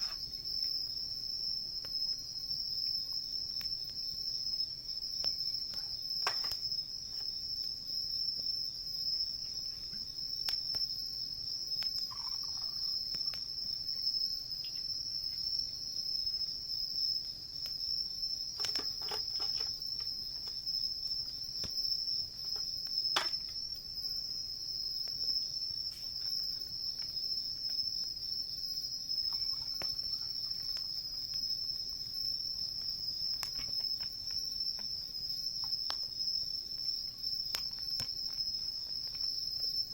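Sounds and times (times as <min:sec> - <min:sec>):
crickets chirping: 0:00.0 - 0:39.9
campfire crackling and popping: 0:00.1 - 0:39.9.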